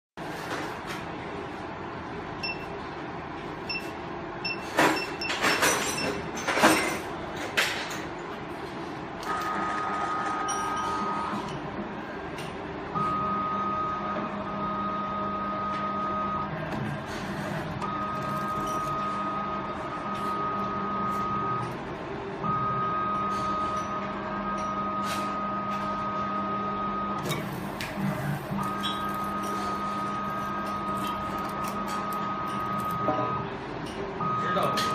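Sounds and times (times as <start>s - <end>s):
stripping machine whine and hum: 0.5s - 34.9s.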